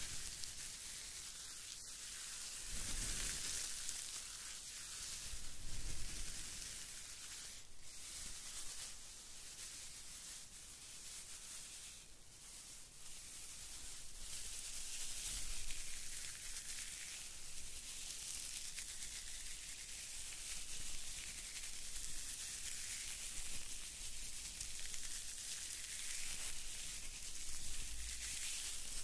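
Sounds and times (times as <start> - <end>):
tinsel rustling: 0.0 - 29.0.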